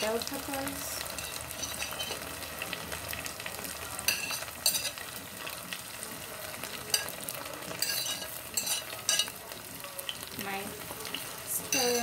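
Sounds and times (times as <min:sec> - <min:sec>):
chicken sizzling in a pot: 0:00.0 - 0:12.0.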